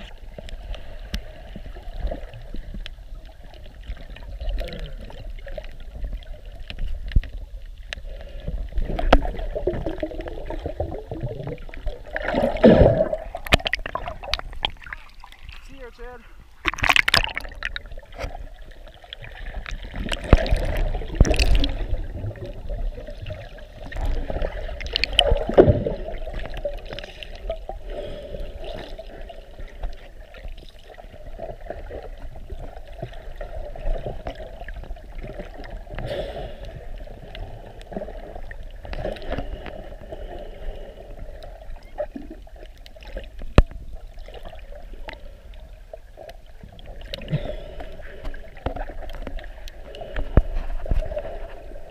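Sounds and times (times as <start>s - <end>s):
muffled underwater sloshing: 0.0s - 51.9s.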